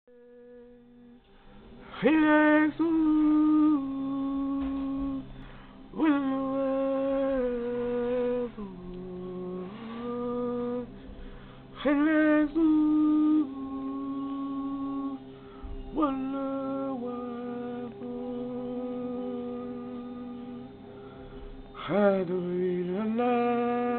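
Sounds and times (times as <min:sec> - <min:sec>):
person singing a slow chant: 0:00.1 - 0:23.9.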